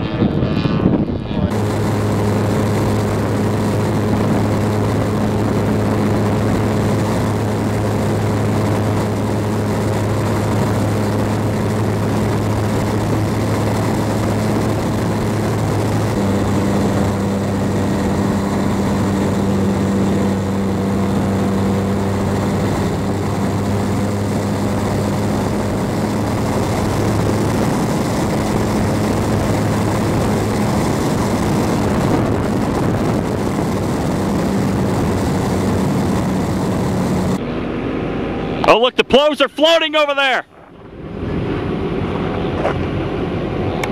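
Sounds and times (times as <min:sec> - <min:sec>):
model airplane motor and propeller drone: 0:00.0 - 0:37.4
rushing wind noise: 0:00.0 - 0:38.7, 0:40.5 - 0:43.9.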